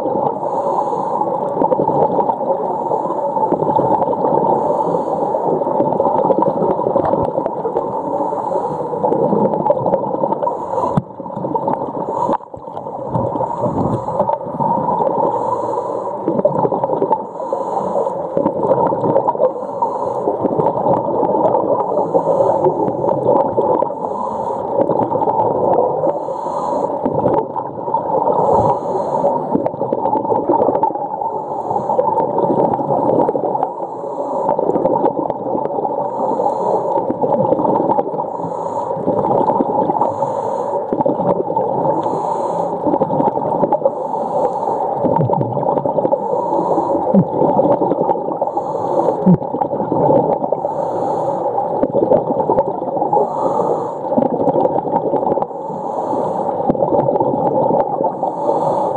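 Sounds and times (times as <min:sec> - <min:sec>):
muffled underwater gurgling: 0:00.0 - 0:58.9.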